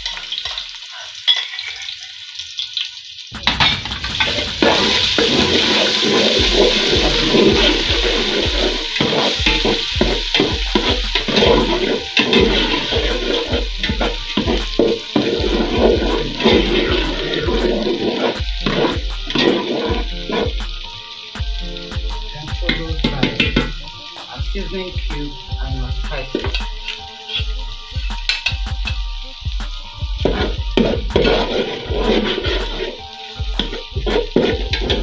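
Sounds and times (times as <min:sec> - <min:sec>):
hot oil sizzling in a pot: 0:00.0 - 0:35.0
music with a steady beat: 0:03.4 - 0:35.0.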